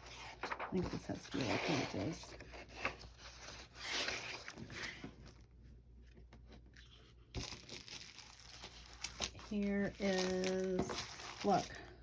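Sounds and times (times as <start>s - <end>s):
paper pages rustling: 0.0s - 11.8s.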